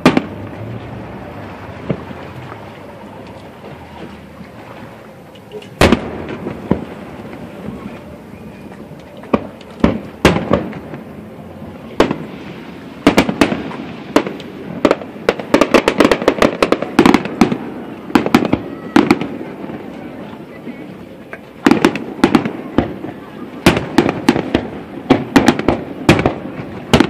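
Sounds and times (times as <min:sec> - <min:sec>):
fireworks bangs and crackles: 0:00.0 - 0:03.9, 0:05.7 - 0:27.0.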